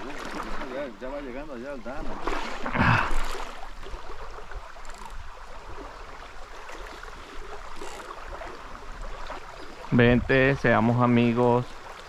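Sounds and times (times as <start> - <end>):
shallow river water running: 0.0 - 12.0.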